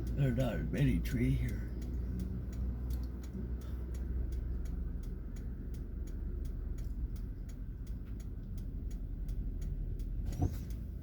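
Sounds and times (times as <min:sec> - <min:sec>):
engine and road rumble: 0:00.0 - 0:11.0
turn signal ticking: 0:00.0 - 0:11.0.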